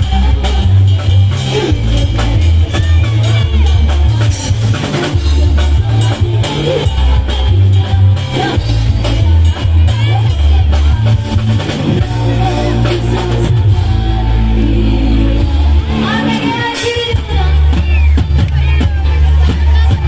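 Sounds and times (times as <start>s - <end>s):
drum beat: 0.0s - 14.0s, 16.0s - 20.0s
heavy repeating bass line: 0.0s - 20.0s.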